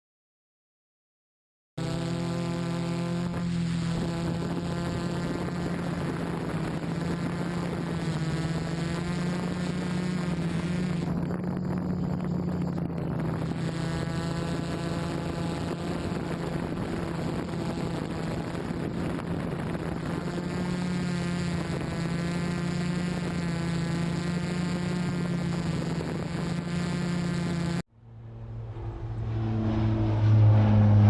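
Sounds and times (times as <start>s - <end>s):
drone motors humming: 1.8s - 31.0s.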